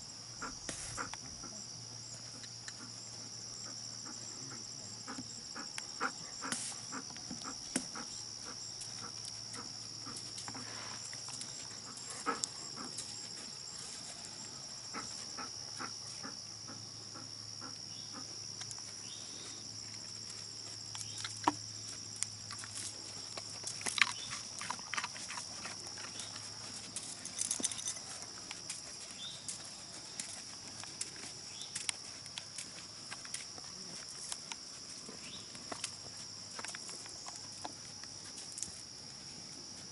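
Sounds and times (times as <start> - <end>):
evening insects chorus: 0.0 - 39.9.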